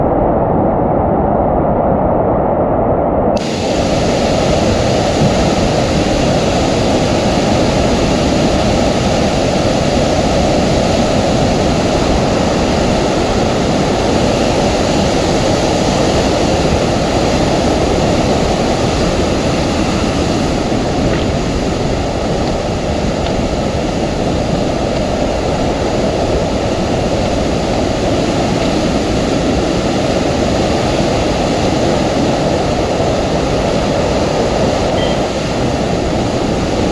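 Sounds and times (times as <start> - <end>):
river rushing in flood: 3.4 - 36.9.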